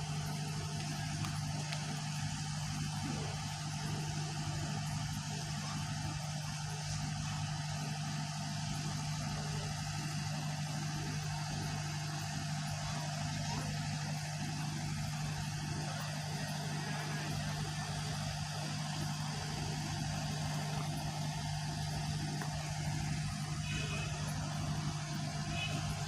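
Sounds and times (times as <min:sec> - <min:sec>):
steady low engine hum: 0:00.0 - 0:26.0.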